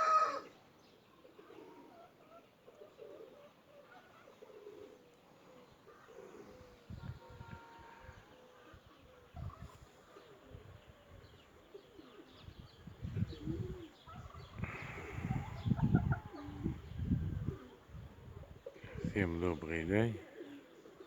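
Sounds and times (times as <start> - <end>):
pigeons cooing: 0.0 - 0.5, 1.1 - 7.7, 8.3 - 21.0
small birds chirping: 0.0 - 21.0.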